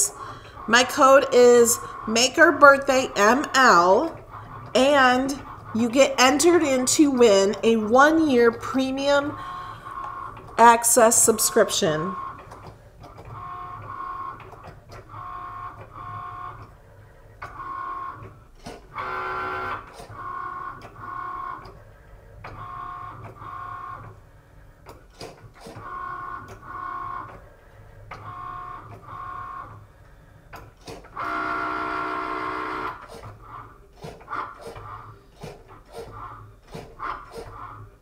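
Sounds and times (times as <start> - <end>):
cutting machine motors whirring: 0.1 - 38.0.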